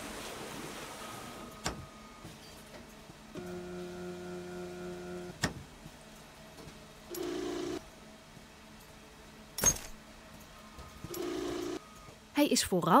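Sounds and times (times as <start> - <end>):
steady humming tone: 0.0 - 12.4.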